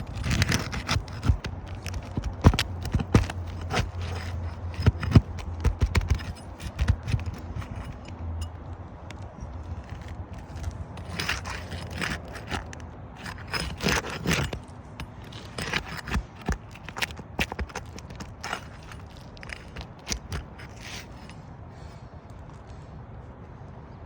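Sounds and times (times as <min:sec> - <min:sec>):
hand tool scraping roof shingles: 0:00.0 - 0:21.9.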